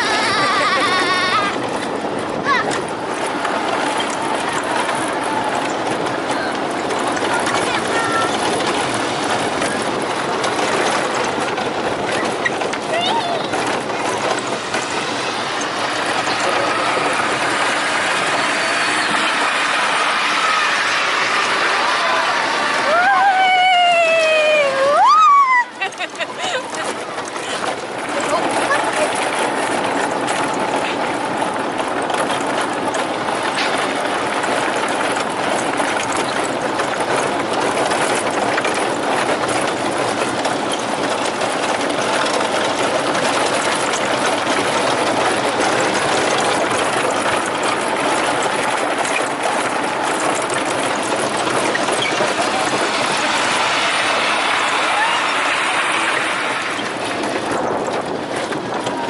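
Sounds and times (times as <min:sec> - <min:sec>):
loud rattling noise: 0:00.0 - 0:59.0.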